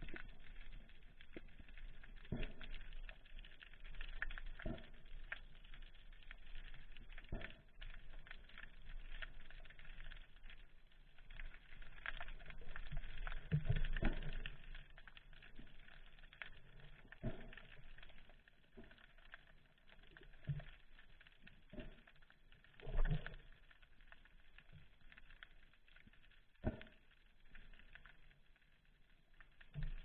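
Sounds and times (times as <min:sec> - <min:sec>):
underwater crackle of fine clicks: 0:00.0 - 0:30.0.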